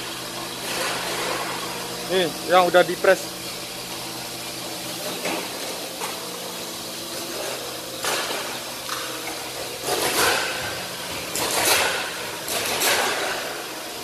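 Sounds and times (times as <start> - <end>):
hydraulic press humming: 0.0 - 14.0.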